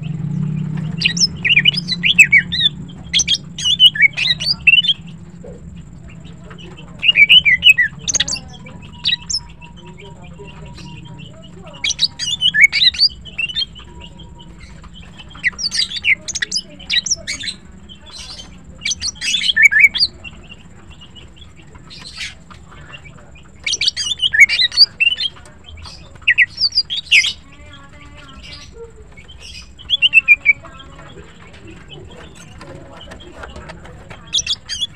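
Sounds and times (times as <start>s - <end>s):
bird singing high chirps: 0.0s - 34.9s.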